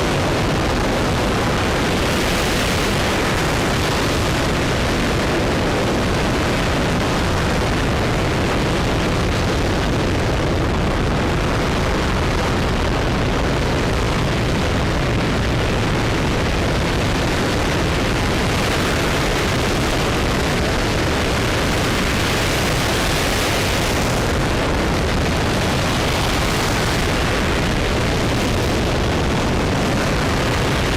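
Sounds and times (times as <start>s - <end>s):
rocket engine roaring: 0.0s - 30.9s.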